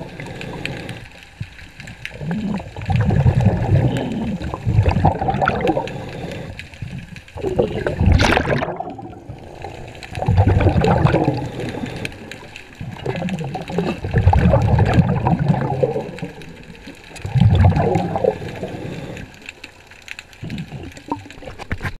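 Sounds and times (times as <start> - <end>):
underwater breath bubbles: 0.0 - 19.7, 20.4 - 21.8.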